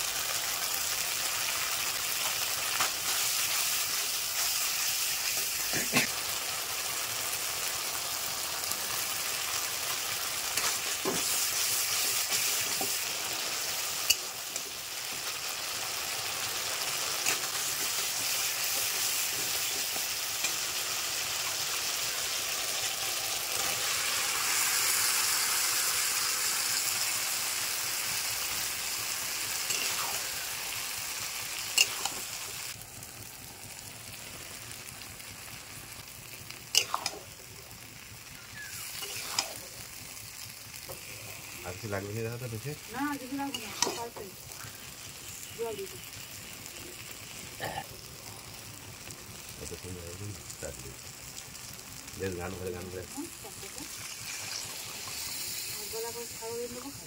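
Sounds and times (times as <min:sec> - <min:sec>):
spices sizzling in a pan: 0:00.0 - 0:57.0.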